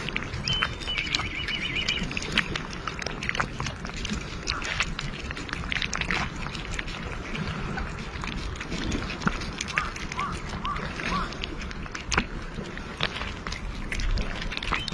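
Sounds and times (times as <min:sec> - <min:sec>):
cats chewing wet food: 0:00.0 - 0:14.9.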